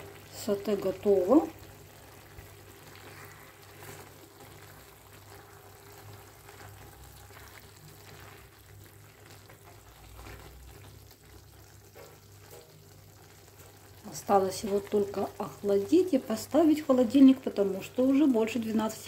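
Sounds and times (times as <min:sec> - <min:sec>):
spatula stirring and scraping: 0:00.0 - 0:15.5
food sizzling in a frying pan: 0:00.0 - 0:19.0.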